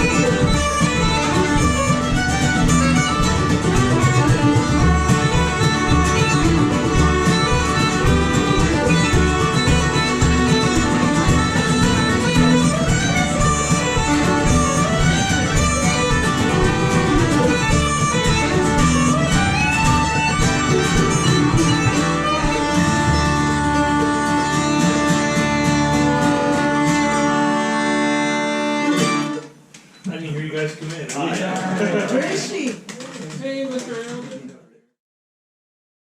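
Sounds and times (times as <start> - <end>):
mandolin: 0.0 - 29.5
fiddle: 0.0 - 29.6
folk band playing a lively tune: 0.0 - 29.6, 31.2 - 34.3.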